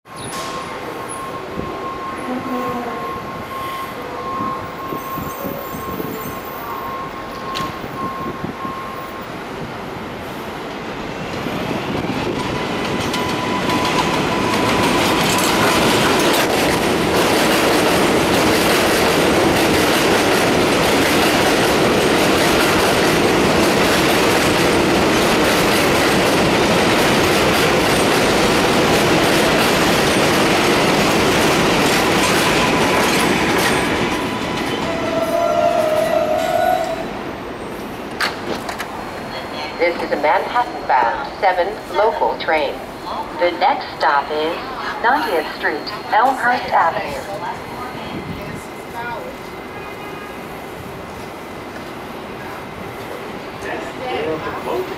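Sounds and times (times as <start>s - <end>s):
subway train wheels clattering: 0.1s - 54.9s.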